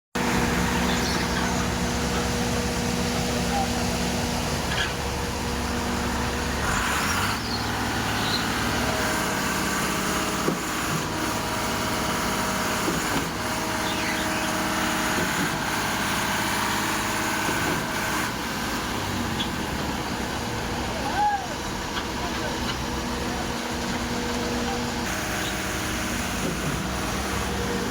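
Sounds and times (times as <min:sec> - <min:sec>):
diesel engines running: 0:00.2 - 0:27.9.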